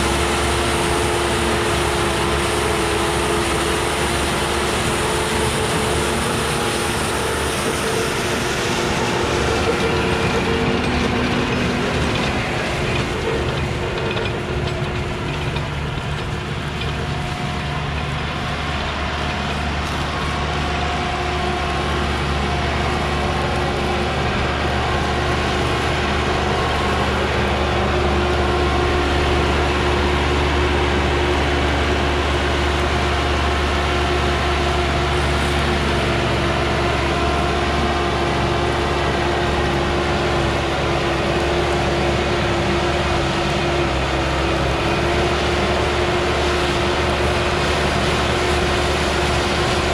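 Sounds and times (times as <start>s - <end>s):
baler working: 0.0s - 49.9s
tractor diesel engine running: 0.0s - 49.9s.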